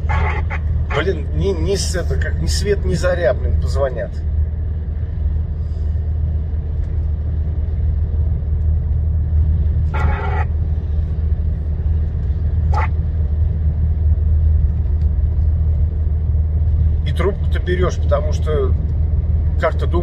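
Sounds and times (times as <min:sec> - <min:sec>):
lorry engine drone: 0:00.0 - 0:20.0
road noise: 0:00.0 - 0:20.0.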